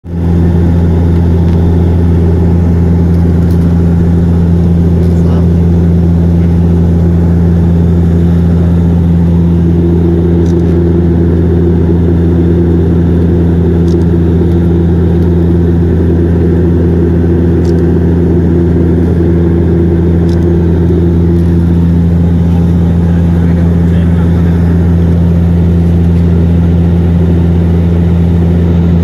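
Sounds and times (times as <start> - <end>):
airplane engine drone in cabin: 0.0 - 29.0.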